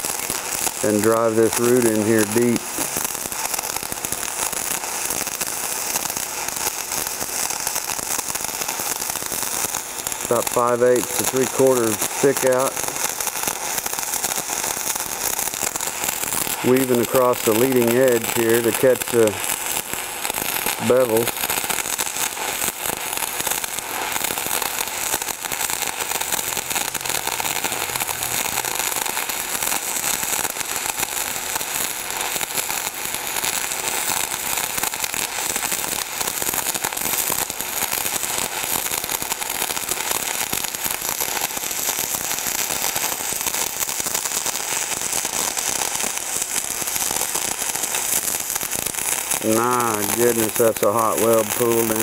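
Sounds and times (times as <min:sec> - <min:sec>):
arc welding crackle: 0:00.0 - 0:52.0.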